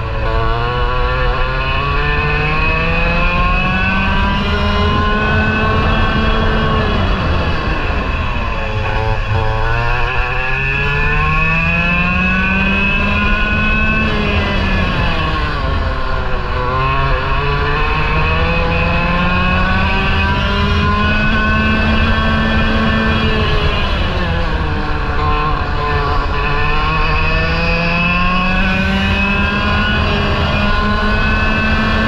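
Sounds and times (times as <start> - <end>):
kart engine revving: 0.0 - 32.0.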